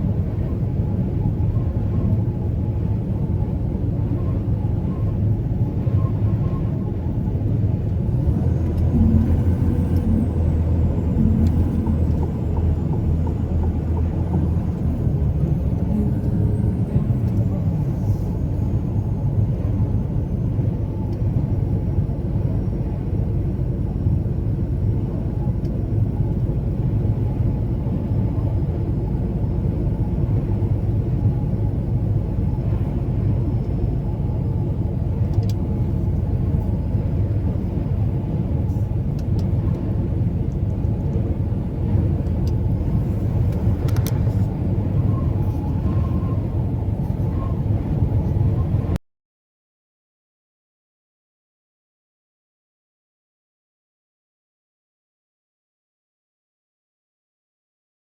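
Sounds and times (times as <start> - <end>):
road noise: 0.0 - 49.0
truck engine rumbling: 0.0 - 49.0.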